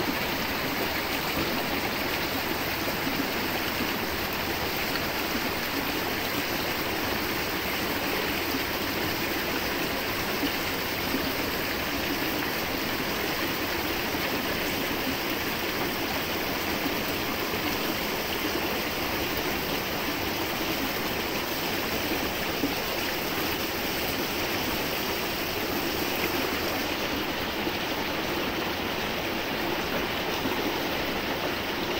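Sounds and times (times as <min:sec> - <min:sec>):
stream water rushing: 0:00.0 - 0:31.9.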